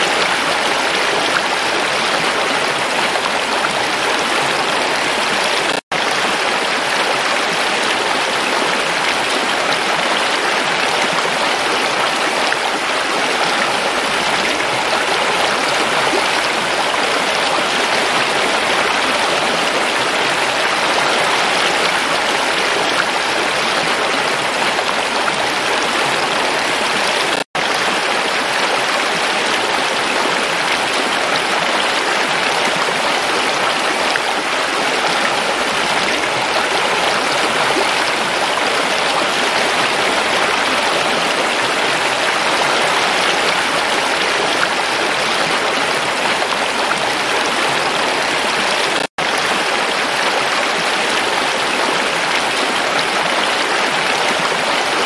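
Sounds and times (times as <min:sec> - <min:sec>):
stream rushing over stones: 0:00.0 - 0:55.0.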